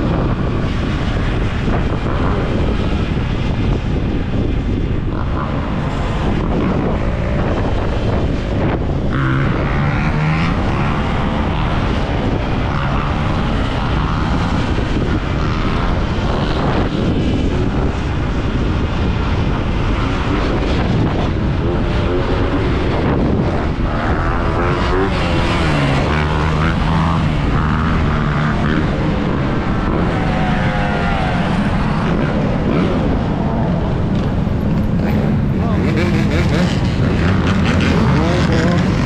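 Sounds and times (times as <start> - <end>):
wind rush on microphone: 0.0 - 39.0.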